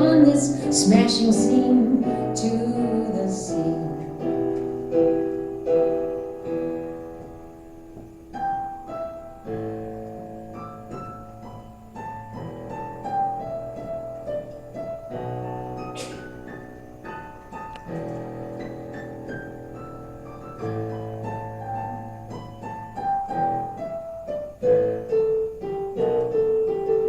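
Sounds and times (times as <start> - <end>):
piano melody over chords: 0.0 - 27.0.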